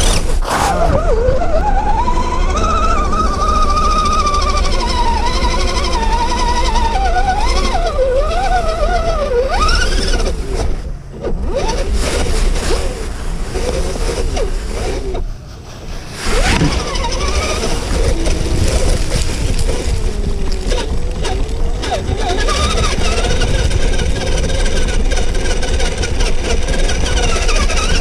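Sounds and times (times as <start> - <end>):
rc car electric motor whining: 0.0 - 15.3, 16.0 - 28.0.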